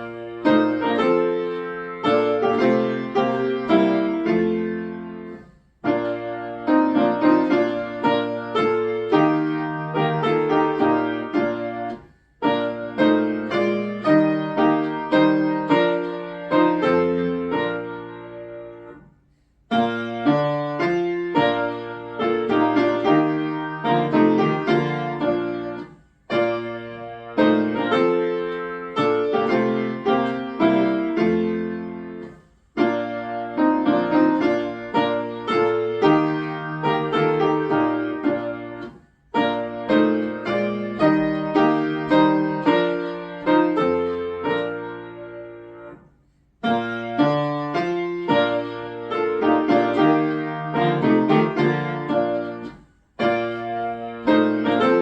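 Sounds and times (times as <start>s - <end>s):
solo piano playing a hymn: 0.0s - 19.1s, 19.7s - 55.0s.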